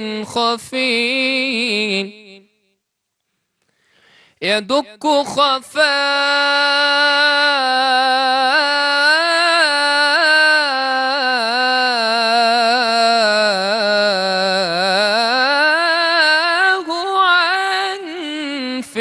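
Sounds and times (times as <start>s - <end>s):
man singing unaccompanied: 0.0s - 2.5s, 4.4s - 19.0s.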